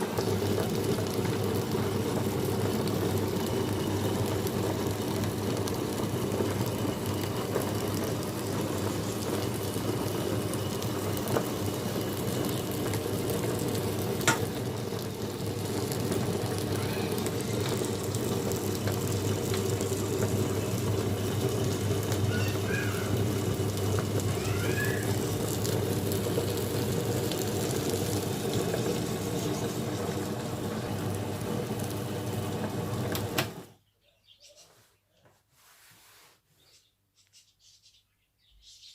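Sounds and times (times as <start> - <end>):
wet grinder motor churning: 0.0 - 33.7.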